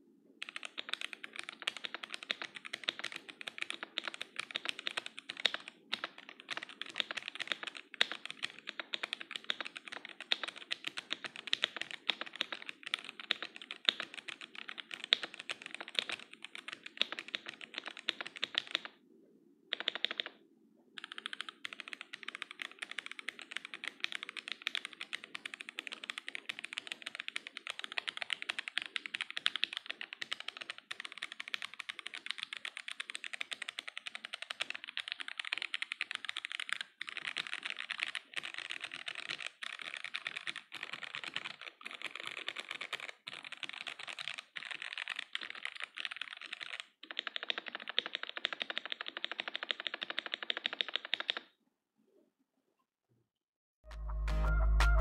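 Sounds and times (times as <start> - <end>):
mechanical keyboard typing: 0.4 - 19.0, 19.7 - 20.4, 21.0 - 51.5.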